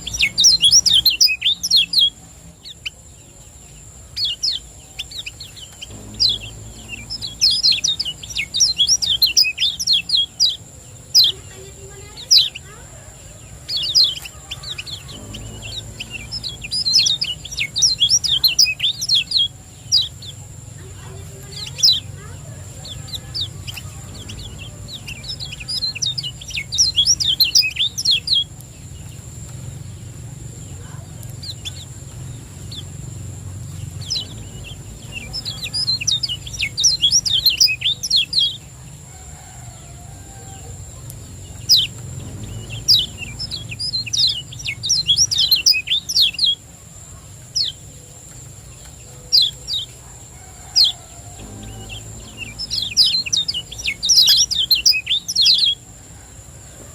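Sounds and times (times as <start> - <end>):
bird rapid high chirping: 0.0 - 38.8, 41.3 - 46.7, 47.4 - 55.8
steady low hum: 0.0 - 56.4.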